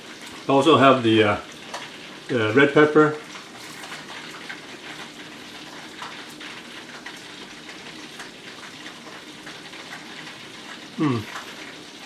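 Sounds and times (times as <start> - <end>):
deep-frying oil sizzling: 0.0 - 12.0.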